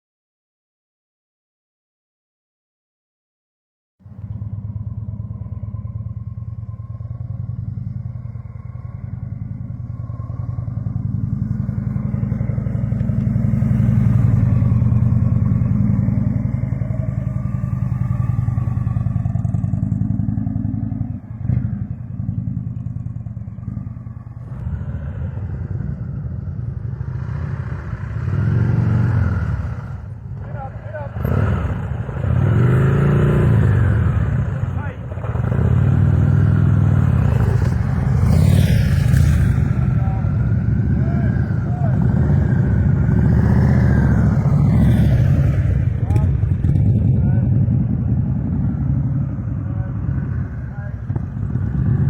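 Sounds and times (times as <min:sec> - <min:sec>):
motorcycle engine running at low revs: 0:04.0 - 0:52.0.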